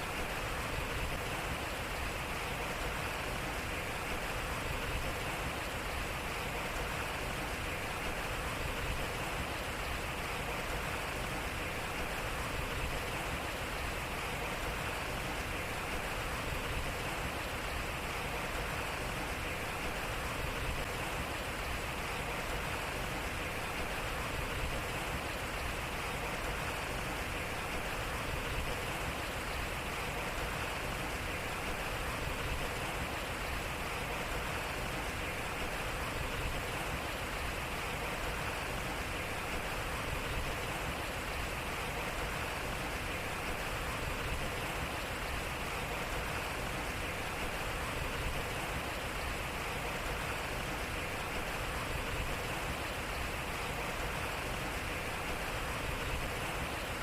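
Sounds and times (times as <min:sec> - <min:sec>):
water rushing off waterwheel: 0:00.0 - 0:57.0.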